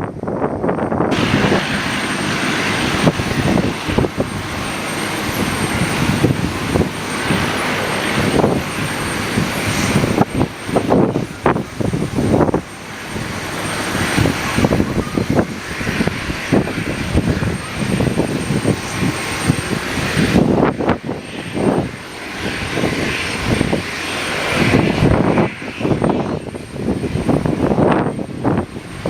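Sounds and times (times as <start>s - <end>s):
aircraft engines running: 0.0s - 29.0s
wind buffeting on microphone: 0.0s - 29.0s.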